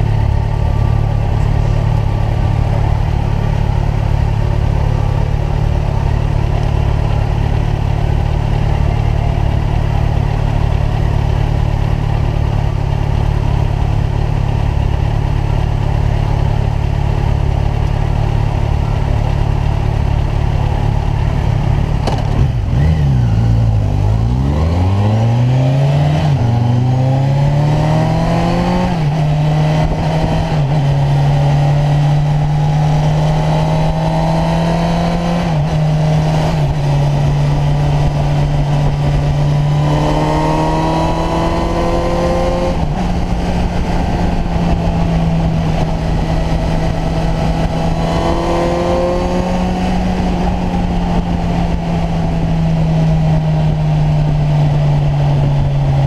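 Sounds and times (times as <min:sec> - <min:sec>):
constant rushing noise: 0:00.0 - 0:56.0
motorcycle engine cruising: 0:00.0 - 0:56.0.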